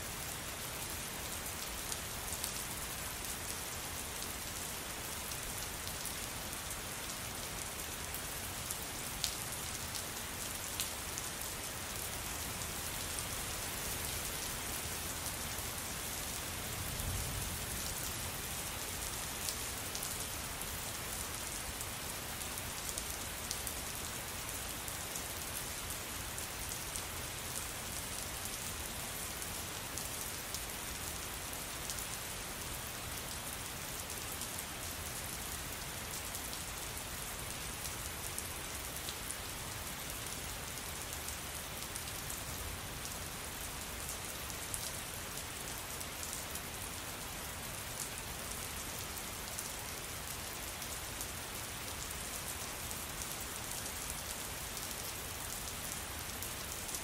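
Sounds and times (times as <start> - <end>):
rain pattering on hard surface: 0.1 - 57.0.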